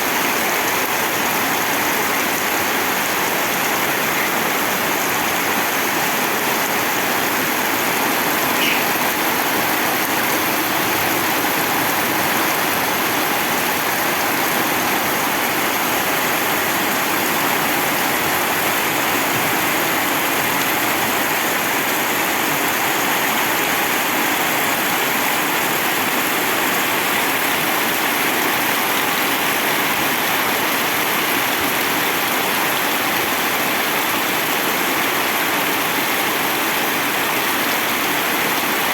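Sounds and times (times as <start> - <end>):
rain pouring: 0.0 - 38.9.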